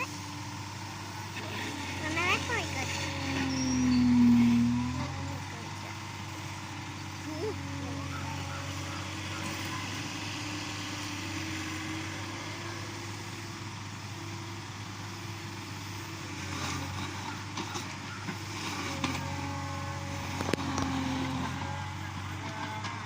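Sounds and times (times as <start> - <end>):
backhoe loader engine running: 0.0 - 23.0.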